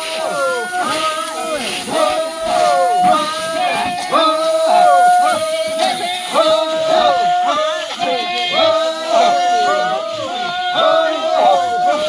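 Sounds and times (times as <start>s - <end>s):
voices singing a chant: 0.0s - 12.0s.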